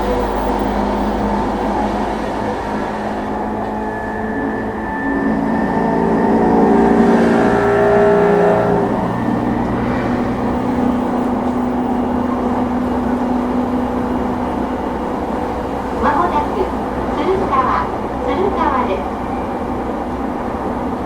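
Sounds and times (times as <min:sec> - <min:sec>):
continuous train rumble: 0:00.0 - 0:21.0
electric train motor tones: 0:00.0 - 0:21.0
growling train noise: 0:00.0 - 0:21.0.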